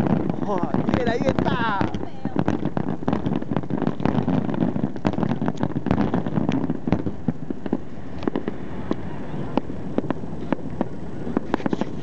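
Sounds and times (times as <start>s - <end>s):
continuous rumble: 0.0s - 12.0s
fireworks bangs and crackles: 0.0s - 12.0s.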